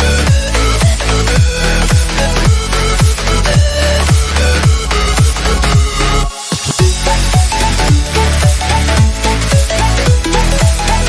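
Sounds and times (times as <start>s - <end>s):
electronic dance music: 0.0s - 11.0s
heavy kick drum: 0.0s - 11.0s.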